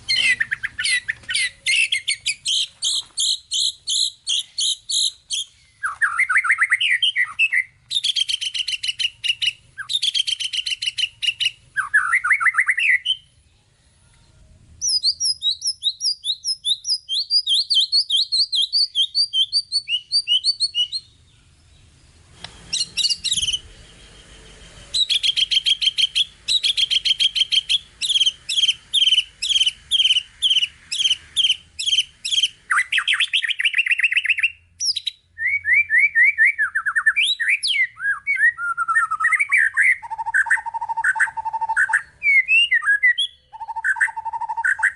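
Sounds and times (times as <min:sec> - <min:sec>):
bird singing varied song: 0:00.0 - 0:44.9.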